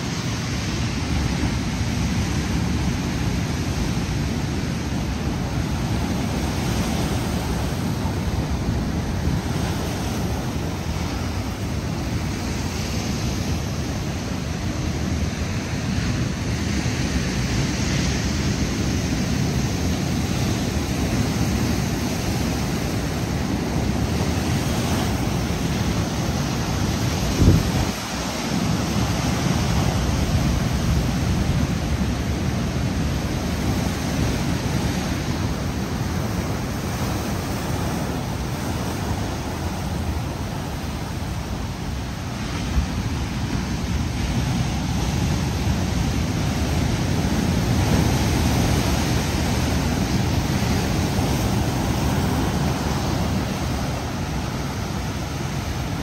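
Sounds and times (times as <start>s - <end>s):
surf rushing: 0.0s - 56.0s
wind buffeting microphone: 0.0s - 56.0s.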